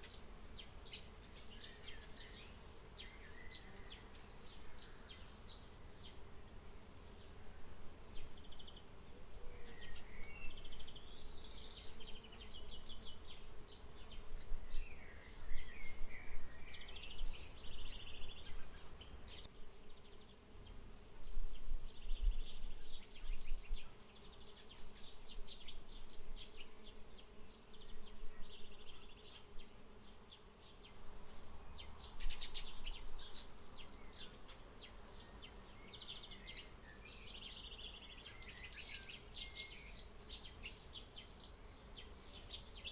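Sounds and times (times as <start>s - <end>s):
insects buzzing: 0.0s - 42.9s
small birds chirping and trilling: 0.0s - 42.9s.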